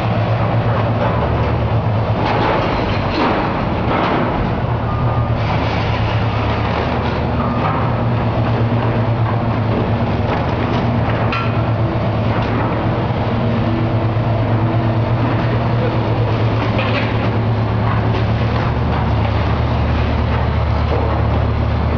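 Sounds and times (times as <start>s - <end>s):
heavy machine engine humming: 0.0s - 21.9s.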